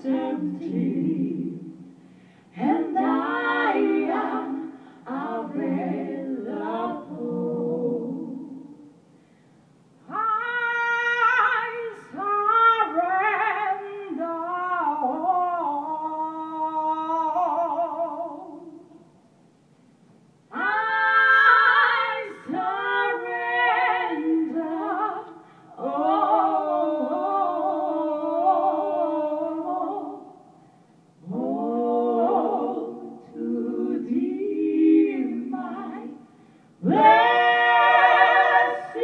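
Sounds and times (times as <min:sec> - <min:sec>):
women singing a cappella: 0:00.0 - 0:09.2, 0:10.0 - 0:19.2, 0:20.5 - 0:39.0.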